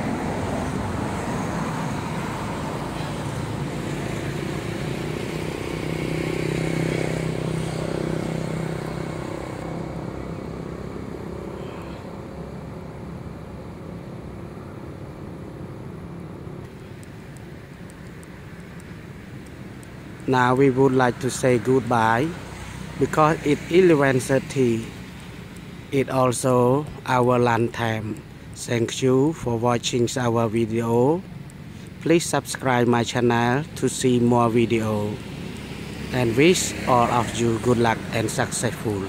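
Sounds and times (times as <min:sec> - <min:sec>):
vehicle engine passing: 0:00.0 - 0:31.2, 0:32.1 - 0:39.0.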